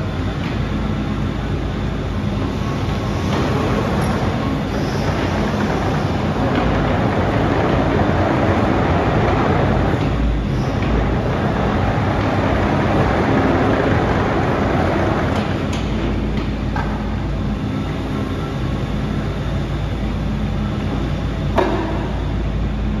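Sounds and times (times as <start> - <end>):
excavator diesel engine running: 0.0 - 21.5
hydraulics working: 0.0 - 23.0.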